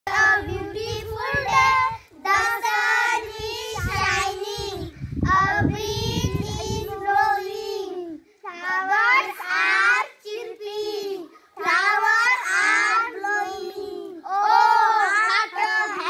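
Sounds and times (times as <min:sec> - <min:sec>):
girls singing together: 0:00.1 - 0:16.0.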